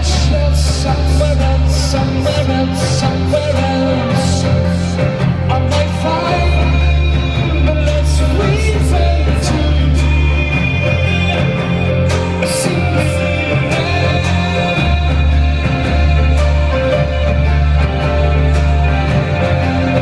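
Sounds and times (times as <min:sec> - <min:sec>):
deep bass line: 0:00.0 - 0:20.0.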